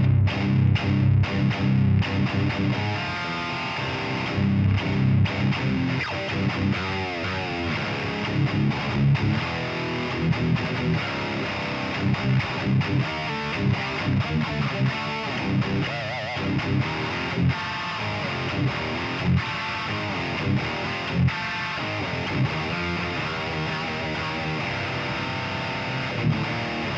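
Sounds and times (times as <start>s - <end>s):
distorted electric guitar metal riffs: 0.0s - 26.9s.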